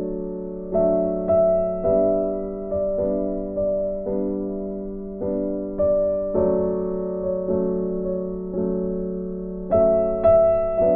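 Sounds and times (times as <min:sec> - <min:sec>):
gentle keyboard chords: 0:00.0 - 0:10.9.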